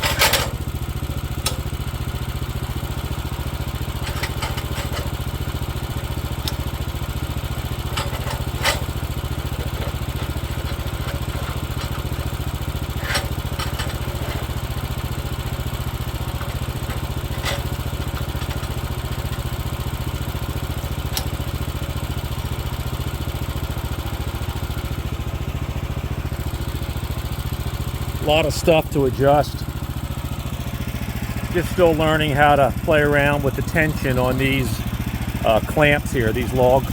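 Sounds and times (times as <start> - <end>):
sawmill engine running: 0.0 - 36.9.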